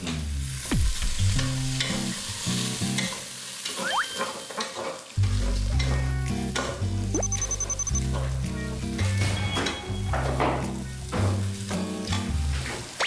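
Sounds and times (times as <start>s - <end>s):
background music with bass line: 0.0s - 3.0s, 5.2s - 12.9s
food sizzling in a pot: 0.1s - 13.0s.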